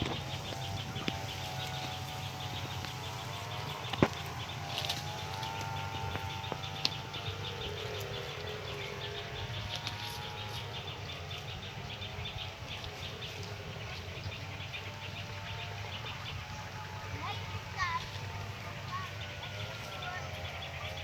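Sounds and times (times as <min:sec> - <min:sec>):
steady humming tone: 0:00.0 - 0:21.0.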